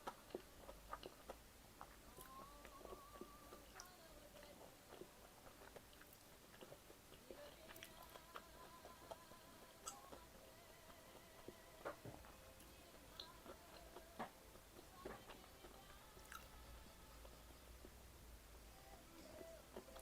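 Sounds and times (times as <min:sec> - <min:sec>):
chewing and mouth noises: 0:00.0 - 0:18.0, 0:18.8 - 0:20.0.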